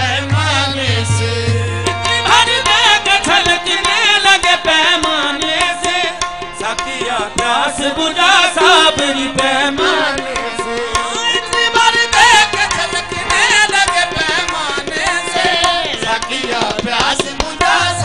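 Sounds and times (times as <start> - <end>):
tabla beat: 0.0 - 18.0.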